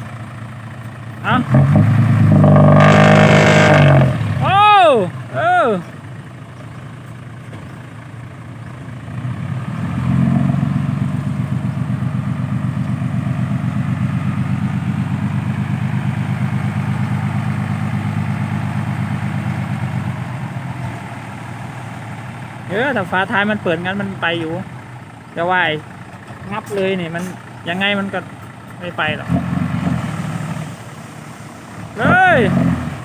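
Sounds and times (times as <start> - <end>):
diesel engine under load: 0.0 - 33.0.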